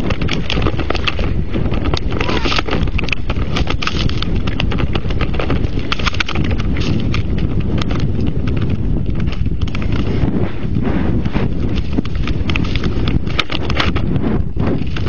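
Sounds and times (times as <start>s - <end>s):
wind rumble: 0.0s - 15.0s.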